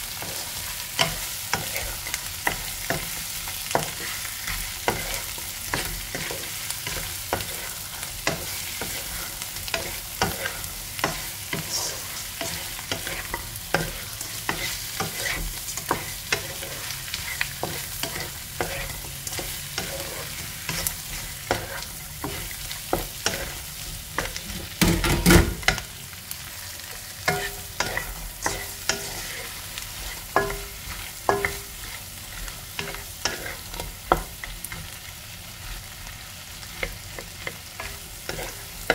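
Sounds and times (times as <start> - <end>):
shrimp and onion sizzling in pan: 0.0 - 38.9
spatula knocking and scraping pan: 0.2 - 25.9, 27.2 - 34.9.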